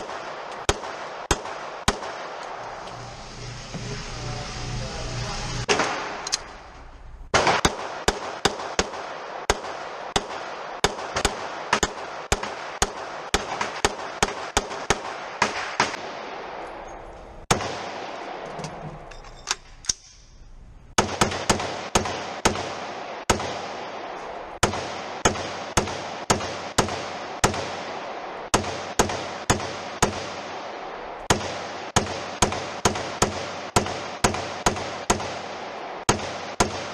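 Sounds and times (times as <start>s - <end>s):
gunshots: 0.0s - 2.8s, 5.6s - 19.1s, 20.9s - 36.9s.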